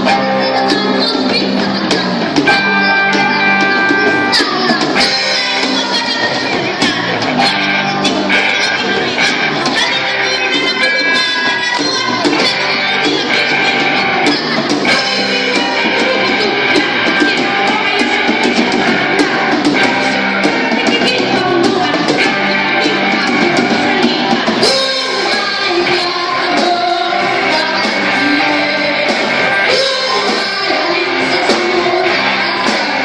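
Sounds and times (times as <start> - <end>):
live rock band playing: 0.0 - 33.0
person singing: 0.0 - 33.0.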